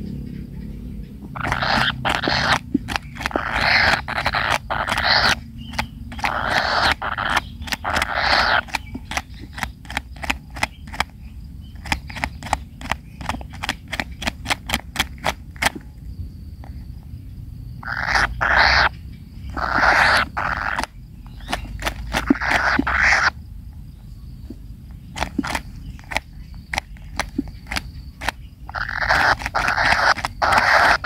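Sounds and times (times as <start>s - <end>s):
chicks harsh rasping calls: 0.0s - 31.0s
sharp clicks: 1.2s - 16.8s, 19.5s - 23.3s, 24.5s - 31.0s.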